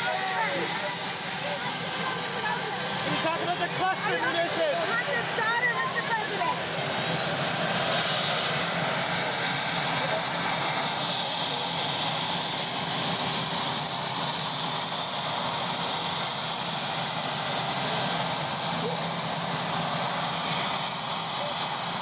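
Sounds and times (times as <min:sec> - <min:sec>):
helicopter turbine engines running: 0:00.0 - 0:22.0.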